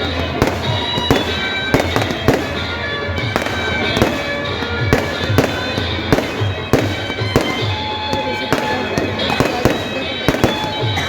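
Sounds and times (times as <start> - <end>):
firecracker bangs: 0.0 - 11.0
music with long held tones: 0.0 - 11.0.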